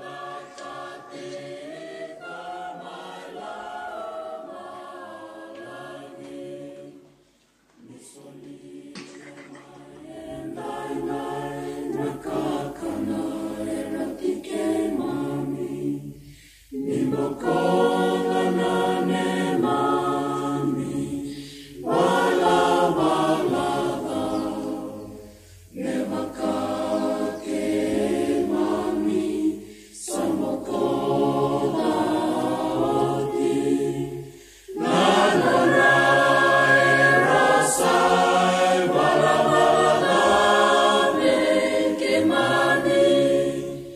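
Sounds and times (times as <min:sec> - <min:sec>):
choir singing: 0:00.0 - 0:43.9.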